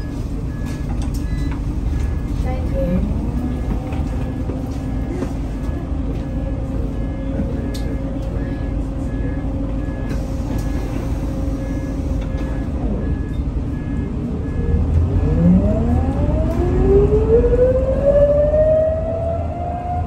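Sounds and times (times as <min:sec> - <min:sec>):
bus engine rumbling: 0:00.0 - 0:20.0.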